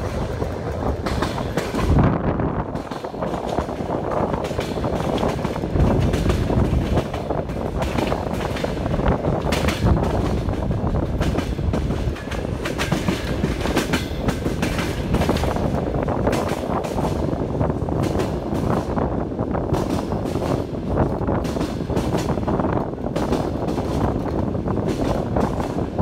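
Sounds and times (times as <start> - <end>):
moving train rumble: 0.0 - 26.0
train wheels clicking over rail joints: 0.0 - 26.0.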